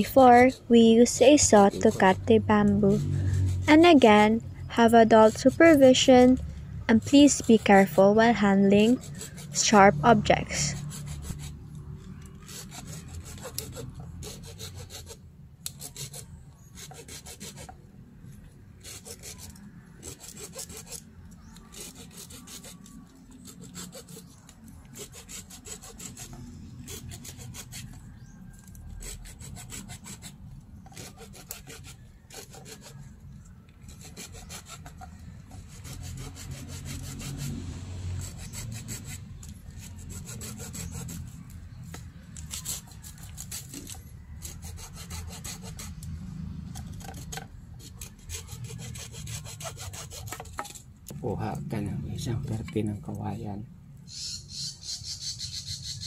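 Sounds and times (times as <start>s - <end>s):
hand saw cutting bamboo: 0.0s - 11.6s, 12.2s - 17.8s, 18.8s - 33.0s, 33.8s - 51.2s.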